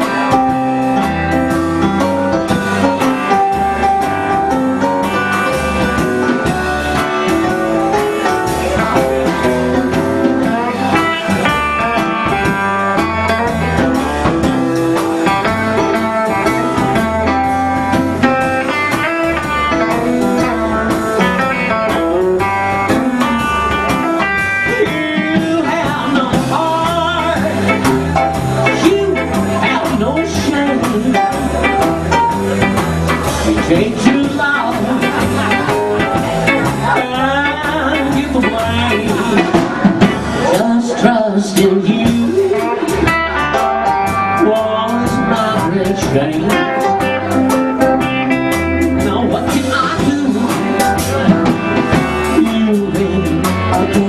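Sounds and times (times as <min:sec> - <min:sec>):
electric guitar: 0:00.0 - 0:54.0
live blues band playing: 0:00.0 - 0:54.0.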